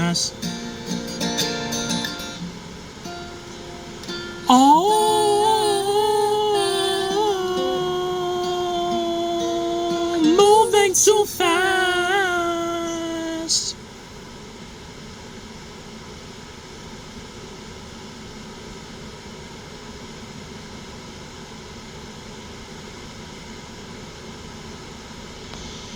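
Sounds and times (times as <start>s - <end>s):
low background hiss: 0.0s - 25.9s.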